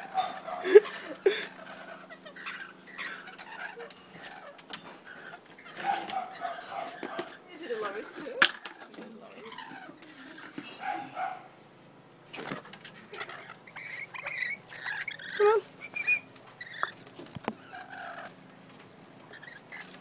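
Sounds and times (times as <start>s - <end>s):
parrots squawking and chirping: 0.0s - 11.6s, 12.3s - 20.0s.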